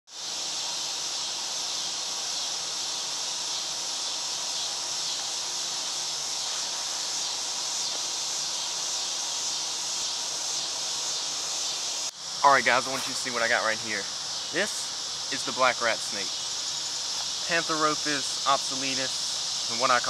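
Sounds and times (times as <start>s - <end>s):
insect chorus hissing: 0.1s - 20.0s.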